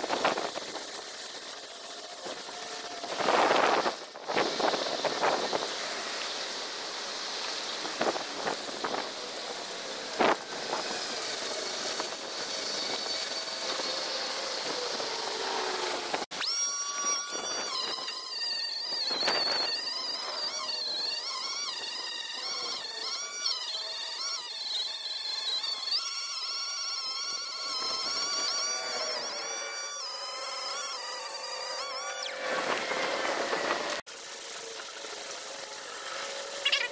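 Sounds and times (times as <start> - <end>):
power grinder on metal: 0.0 - 36.9.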